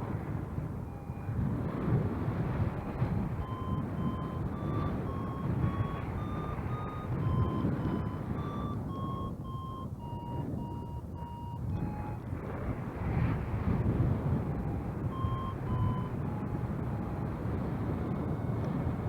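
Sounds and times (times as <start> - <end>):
variometer beeping: 0.0 - 19.0
wind and paramotor engine rumble: 0.0 - 19.0.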